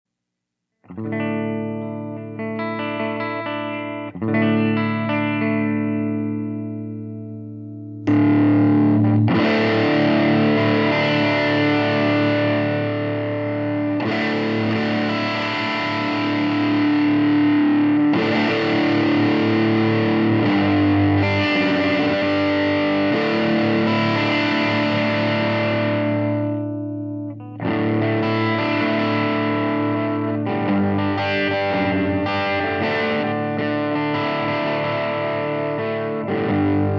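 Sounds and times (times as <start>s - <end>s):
distorted electric guitar chords: 0.9s - 36.9s.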